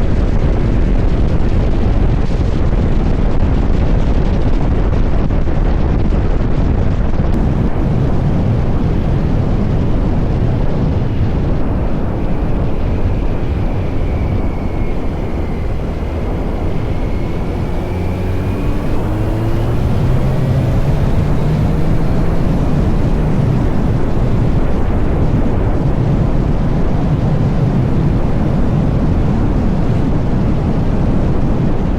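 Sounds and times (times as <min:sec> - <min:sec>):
motorcycle engine accelerating: 0:00.0 - 0:31.8
wind rush on microphone: 0:00.0 - 0:31.9.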